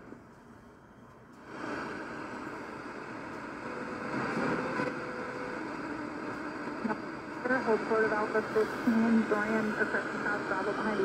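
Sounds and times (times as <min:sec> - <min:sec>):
radio static hiss: 0:01.4 - 0:11.0.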